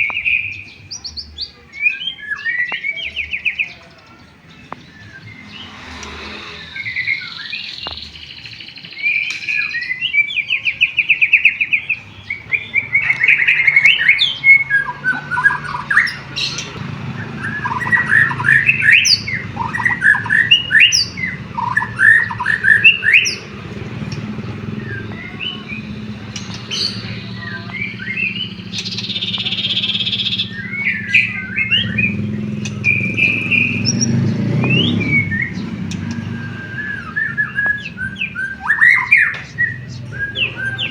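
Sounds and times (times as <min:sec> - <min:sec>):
songbird singing whistles and trills: 0:00.0 - 0:40.9.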